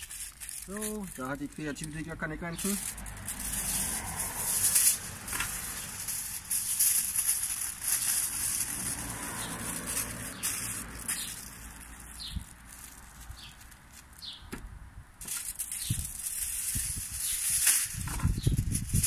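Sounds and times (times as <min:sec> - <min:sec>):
aluminium foil crinkling: 0:00.0 - 0:14.4, 0:15.2 - 0:19.0.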